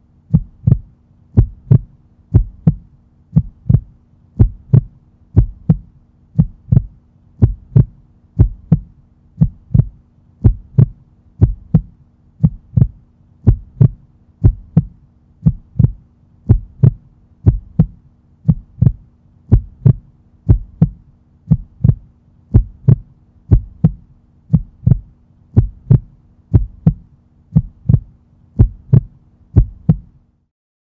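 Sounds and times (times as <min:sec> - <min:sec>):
faint steady hum: 0:00.0 - 0:30.5
heartbeat thumps: 0:00.3 - 0:30.2.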